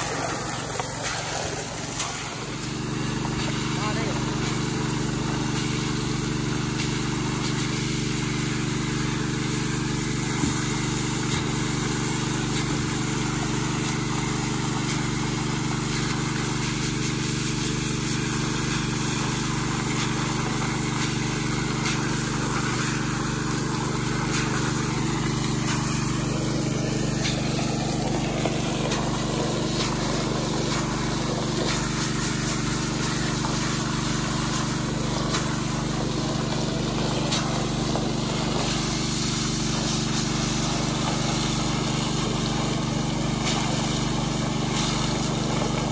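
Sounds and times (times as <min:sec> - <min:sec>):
water jet hissing on mud: 0:00.0 - 0:45.9.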